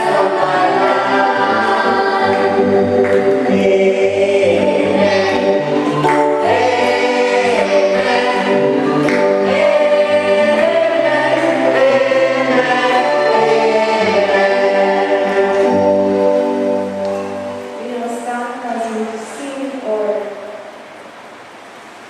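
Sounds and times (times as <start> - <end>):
congregation singing a hymn: 0.0 - 18.3.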